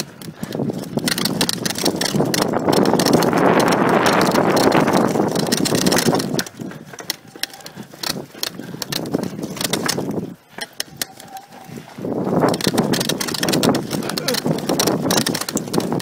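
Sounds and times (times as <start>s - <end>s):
bike rattling clicks: 0.0s - 16.0s
wind rush and tyre rumble: 0.0s - 16.0s.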